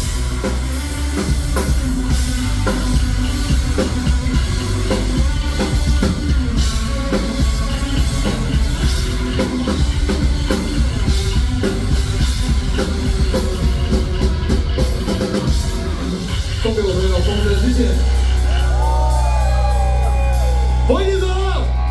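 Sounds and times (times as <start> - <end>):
metal music with drums and guitar: 0.0 - 21.9.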